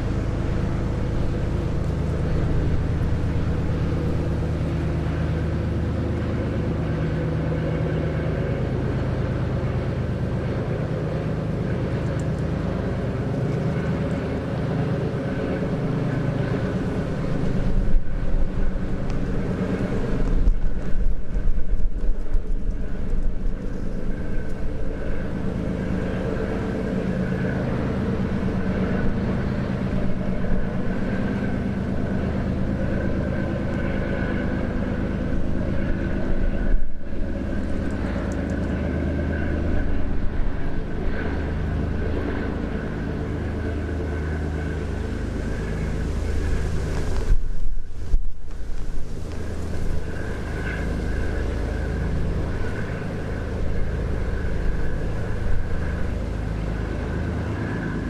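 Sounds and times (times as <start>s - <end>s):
boat engine droning: 0.0s - 58.0s
wind buffeting microphone: 0.0s - 58.0s.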